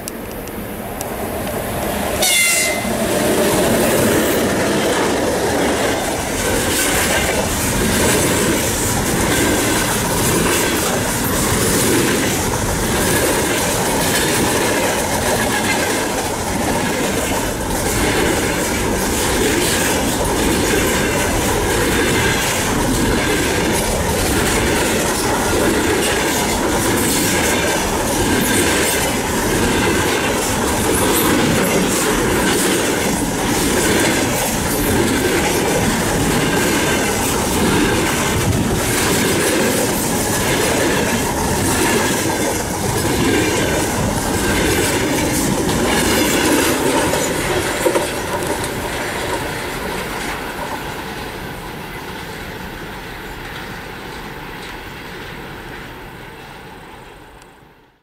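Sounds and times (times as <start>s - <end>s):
wheels clicking over track: 0.0s - 51.0s
steel wheels on rails: 0.0s - 57.6s.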